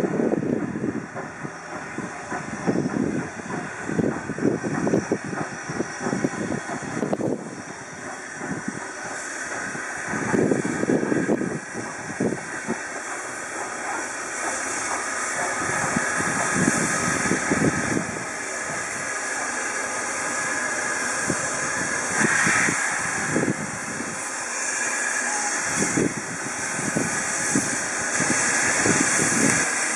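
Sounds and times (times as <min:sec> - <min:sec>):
steam hiss: 0:00.0 - 0:29.9
steam locomotive exhaust beats: 0:00.0 - 0:29.9.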